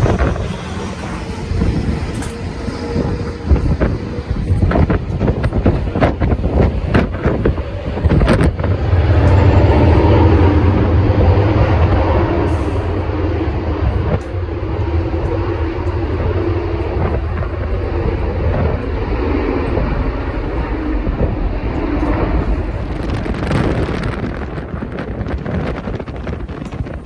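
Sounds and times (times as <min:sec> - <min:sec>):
jet airliner engines rumbling: 0:00.0 - 0:27.0.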